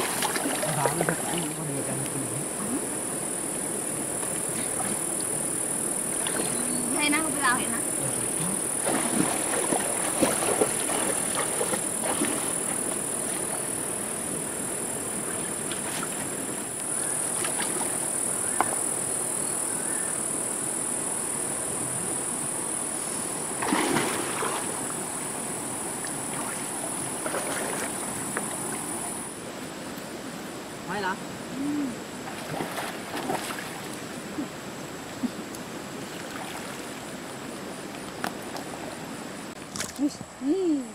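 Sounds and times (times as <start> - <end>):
stream water sloshing around legs: 0.0 - 2.2, 2.8 - 19.1, 23.4 - 31.4, 32.1 - 40.4
steady high hiss: 0.0 - 40.9.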